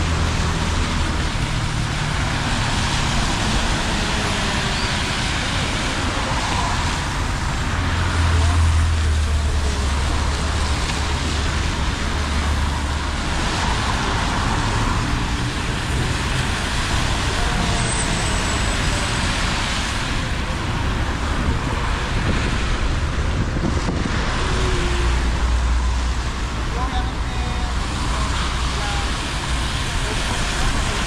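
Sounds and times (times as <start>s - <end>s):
vehicles passing on wet road: 0.0s - 31.0s.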